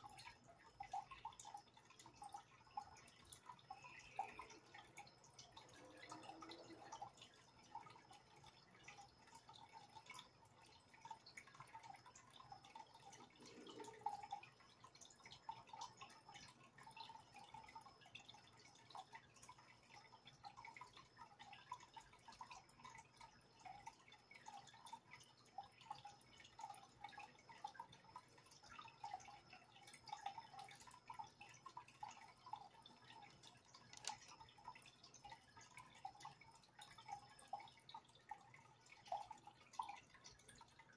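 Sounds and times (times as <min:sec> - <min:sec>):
water dripping and bubbling: 0:00.0 - 0:40.9.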